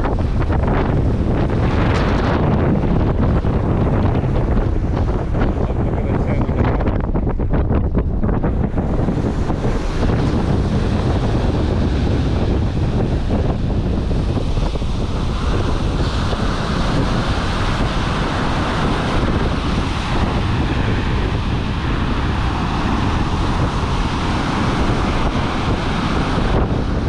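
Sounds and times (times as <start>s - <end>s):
heavy surf breaking: 0.0s - 27.0s
wind buffeting microphone: 0.0s - 27.0s.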